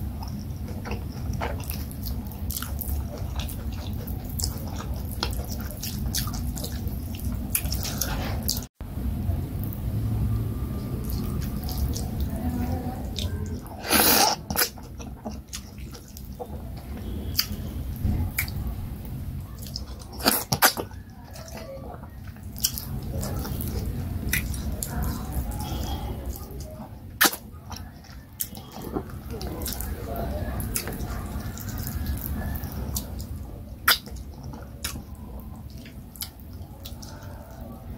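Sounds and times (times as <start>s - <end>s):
wet chewing and mouth clicks: 0.0s - 8.7s, 10.7s - 37.9s.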